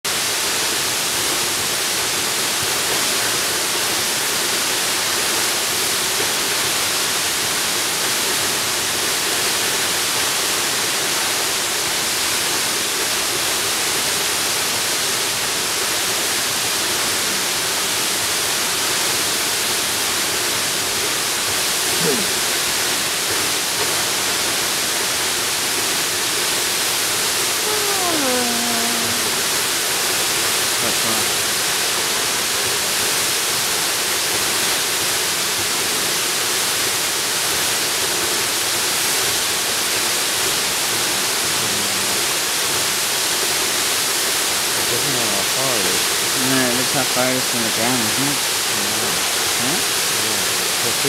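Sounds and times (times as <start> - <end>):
waterfall rushing: 0.1 - 51.0.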